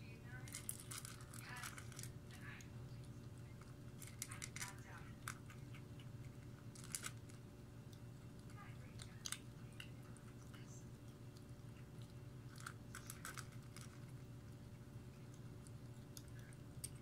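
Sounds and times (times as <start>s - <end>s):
low steady hum: 0.0s - 17.0s
kitten crunching dry kibble: 0.3s - 17.0s.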